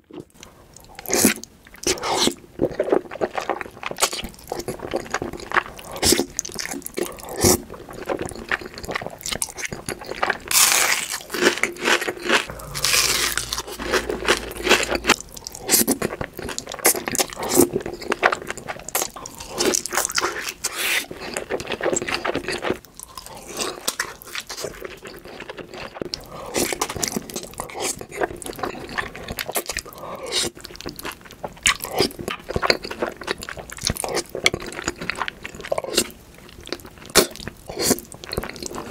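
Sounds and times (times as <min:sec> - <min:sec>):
crunchy chewing: 0:00.1 - 0:38.9.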